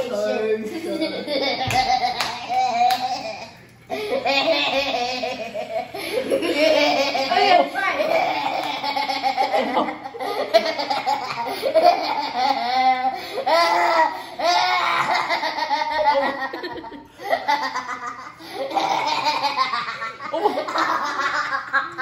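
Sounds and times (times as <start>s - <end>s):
boys laughing: 0.0s - 22.0s.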